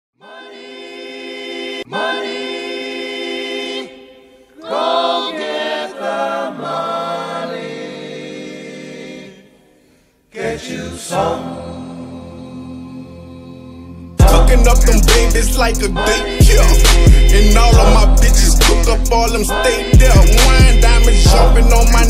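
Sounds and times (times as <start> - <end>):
choir-like sustained vocals: 0.2 - 22.0.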